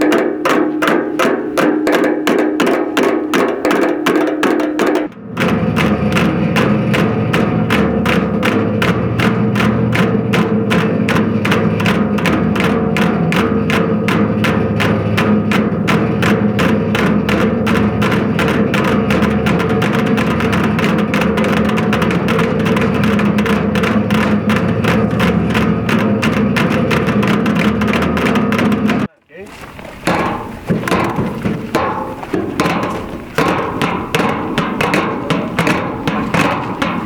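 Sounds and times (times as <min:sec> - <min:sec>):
rapid wooden knocks: 0:00.0 - 0:37.0.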